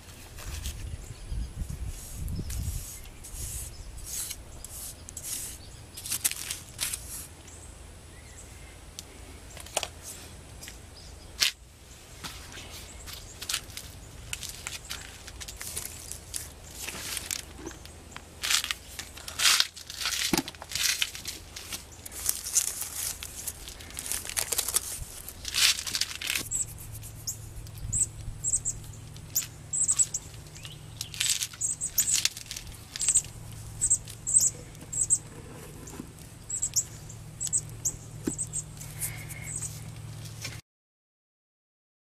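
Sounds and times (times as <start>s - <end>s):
rustling and scraping: 0.0s - 1.0s, 1.6s - 7.4s, 11.4s - 40.6s
small birds chirping: 0.4s - 19.4s, 21.5s - 40.6s.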